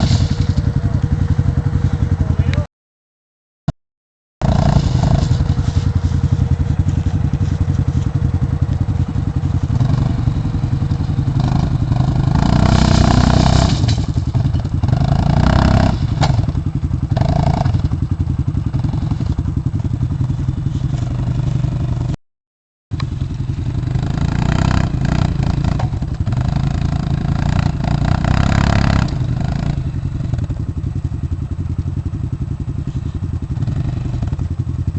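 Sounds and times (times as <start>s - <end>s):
clatter and scraping over ground: 0.0s - 2.6s, 4.4s - 22.2s, 22.9s - 34.9s
atv engine running: 0.0s - 2.7s, 4.4s - 22.2s, 22.9s - 34.9s.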